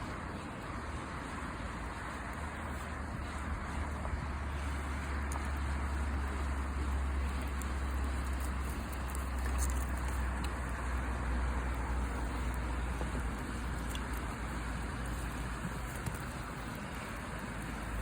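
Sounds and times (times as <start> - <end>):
campfire crackles: 0.0 - 18.0
low fire rumble: 0.0 - 18.0.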